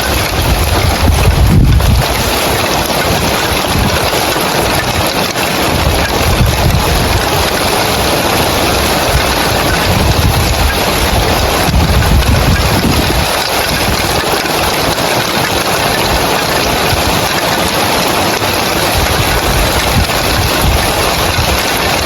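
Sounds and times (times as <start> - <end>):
heavy rain on roof tiles: 0.0 - 22.0.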